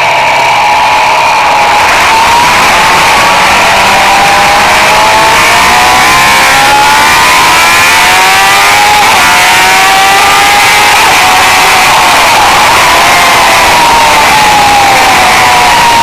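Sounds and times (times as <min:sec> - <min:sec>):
motorcycle engine pulling hard: 0:00.0 - 0:16.0.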